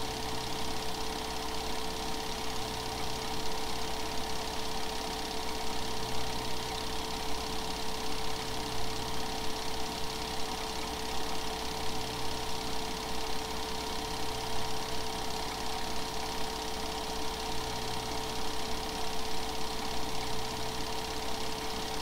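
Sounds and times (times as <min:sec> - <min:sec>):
film projector whirring hum: 0:00.0 - 0:22.0.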